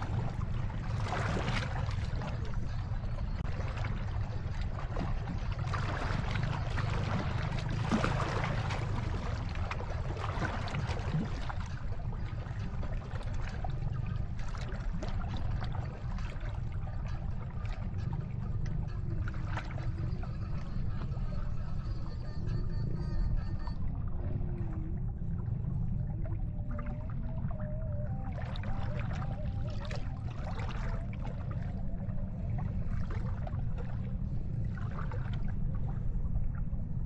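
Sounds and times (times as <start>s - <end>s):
sea water splashing and lapping: 0.0s - 37.0s
steady low rumble: 0.0s - 37.0s.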